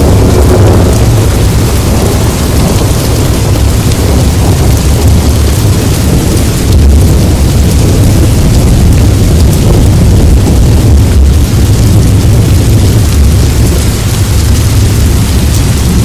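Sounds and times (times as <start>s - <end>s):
deep low rumble: 0.0s - 16.0s
heavy rain: 0.0s - 16.0s.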